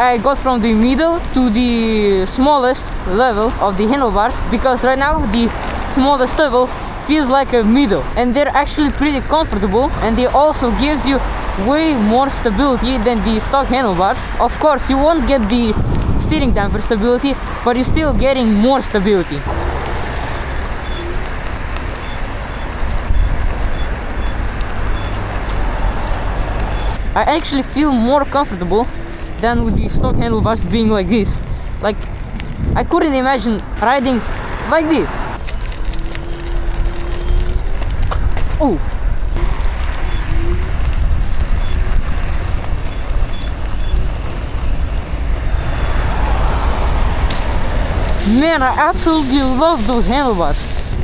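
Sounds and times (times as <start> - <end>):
scooter tyre noise: 0.0 - 51.0
wind rushing over microphone: 0.0 - 51.0.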